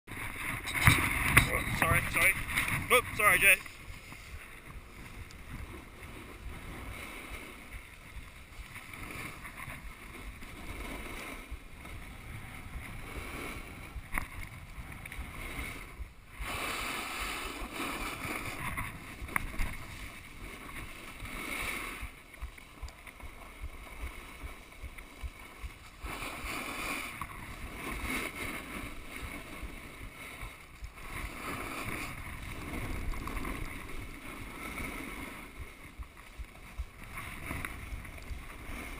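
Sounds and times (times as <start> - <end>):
snowboard scraping on snow: 0.1 - 38.9
wind rumbling on microphone: 0.1 - 38.9.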